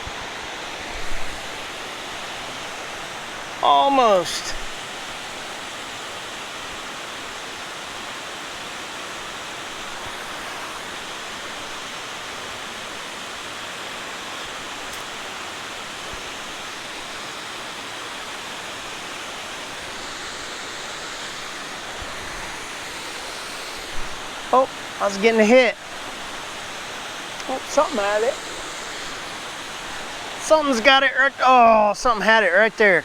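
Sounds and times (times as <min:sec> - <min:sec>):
water rushing over spillway: 0:00.0 - 0:33.0.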